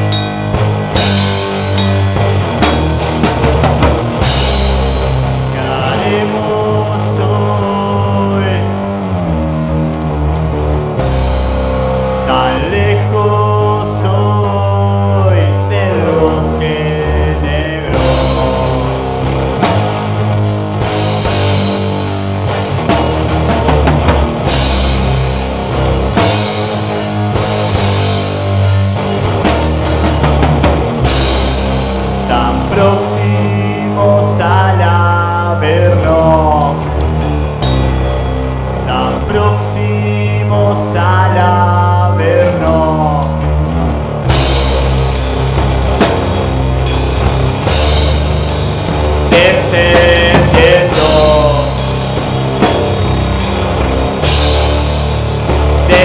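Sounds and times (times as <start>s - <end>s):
electric guitar bending sliding lines: 0.0s - 41.1s, 41.7s - 56.0s
bass guitar: 0.0s - 56.0s
drum kit: 0.0s - 56.0s.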